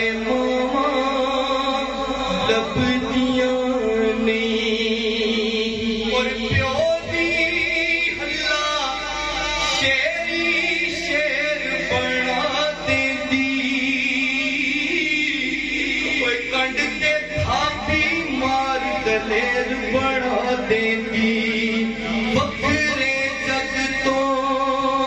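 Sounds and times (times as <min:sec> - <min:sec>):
man singing into a microphone: 0:00.0 - 0:25.0.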